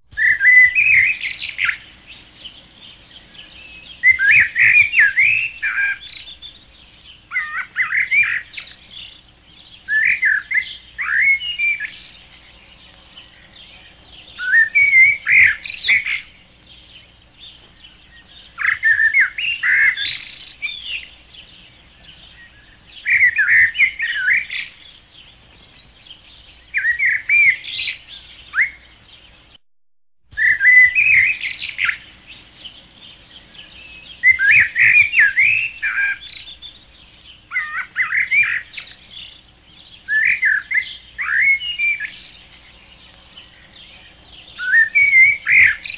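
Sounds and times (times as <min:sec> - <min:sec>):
songbird singing: 0:00.1 - 0:29.6, 0:30.3 - 0:45.9.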